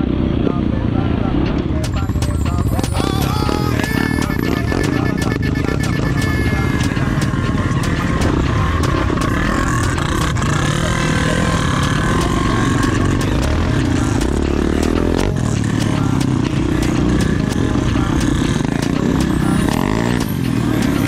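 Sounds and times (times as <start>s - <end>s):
dirt bike engine revving: 1.3s - 21.0s.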